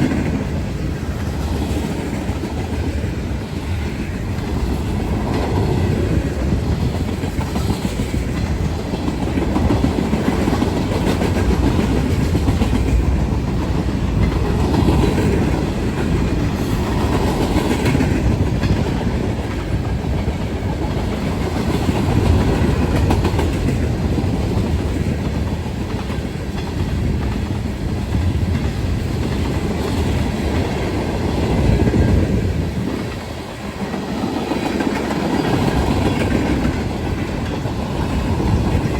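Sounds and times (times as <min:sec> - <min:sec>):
freight train rumbling: 0:00.0 - 0:38.9
train wheels clacking over rail joints: 0:00.0 - 0:38.9.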